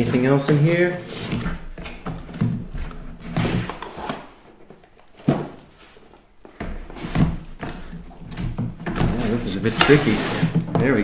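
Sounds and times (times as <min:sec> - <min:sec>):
cardboard scraping and rustling: 0:00.0 - 0:11.0.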